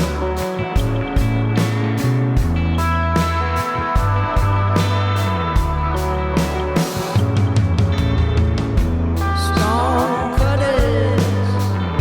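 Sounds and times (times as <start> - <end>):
rock music with steady beat: 0.0 - 12.0.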